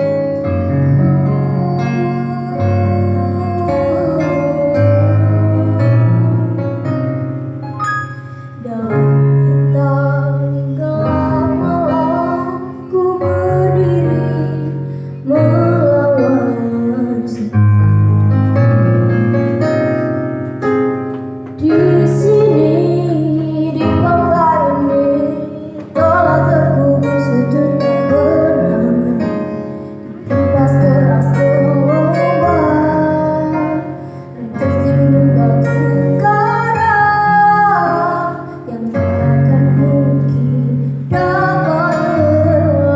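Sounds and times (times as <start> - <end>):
woman singing slow pop song: 0.0 - 7.2, 8.6 - 18.0, 21.6 - 42.9
piano accompaniment: 0.0 - 42.9.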